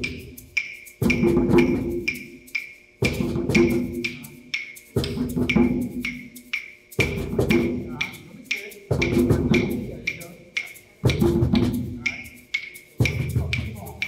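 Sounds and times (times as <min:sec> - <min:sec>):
sharp high wood-block clicks: 0:00.0 - 0:14.0.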